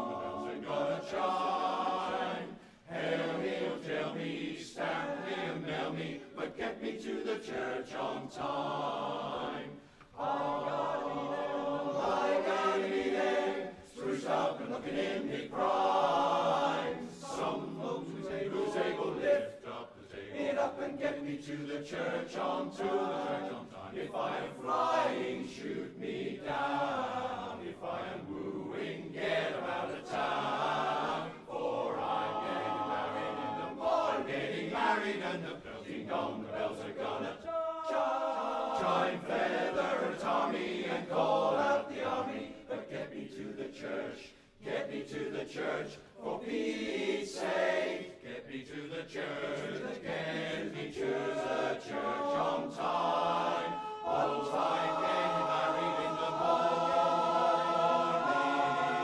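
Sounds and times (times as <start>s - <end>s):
men's chorus singing a cappella: 0.0s - 59.0s.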